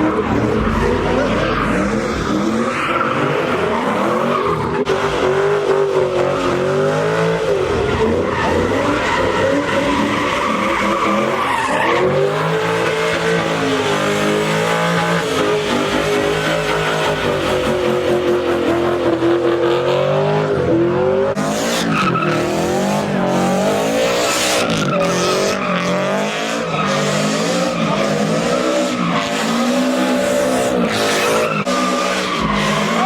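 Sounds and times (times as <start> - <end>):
car engines revving: 0.0 - 33.0
tires skidding on pavement: 0.0 - 33.0.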